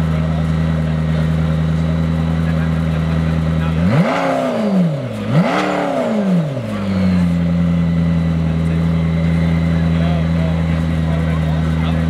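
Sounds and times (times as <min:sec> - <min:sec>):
sports car engine idling and revving: 0:00.0 - 0:12.0.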